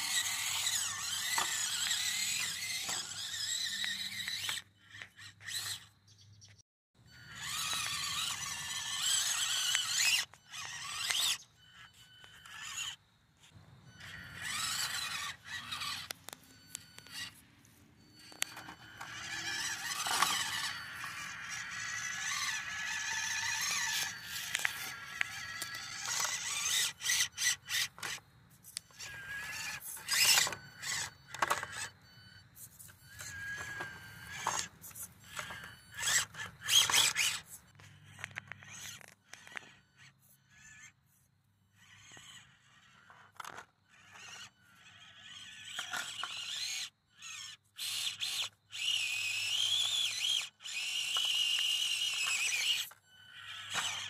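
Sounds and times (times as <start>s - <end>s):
small electric motor whining: 0.0s - 54.0s.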